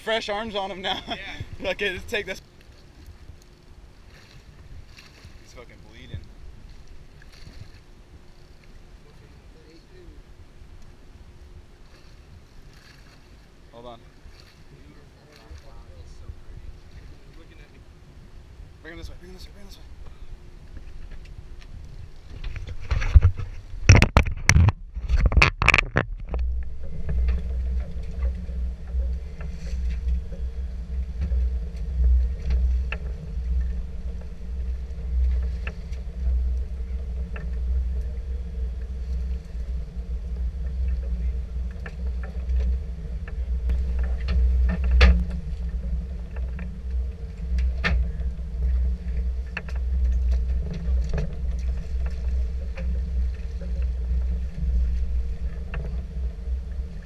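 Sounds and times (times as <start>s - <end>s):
boat engine rumbling: 0.0s - 57.0s
faint steady hum: 0.0s - 57.0s.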